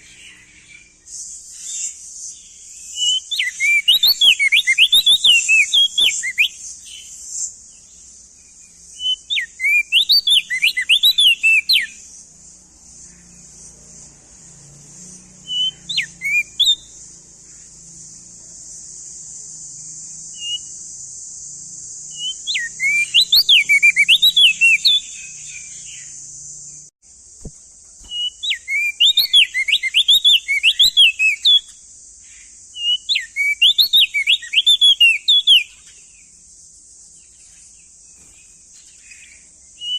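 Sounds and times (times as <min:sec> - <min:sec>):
bird singing whistled notes: 0:00.0 - 0:36.5, 0:37.1 - 0:39.9.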